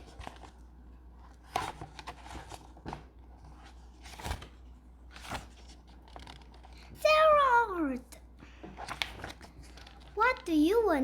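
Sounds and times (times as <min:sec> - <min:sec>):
book pages rustling: 0:00.0 - 0:07.2, 0:08.6 - 0:11.0.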